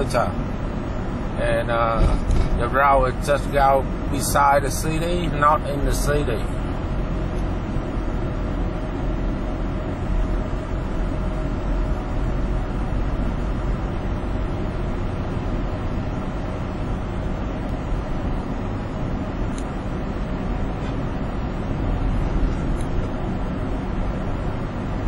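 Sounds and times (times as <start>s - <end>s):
highway traffic rumble: 0.0s - 25.0s.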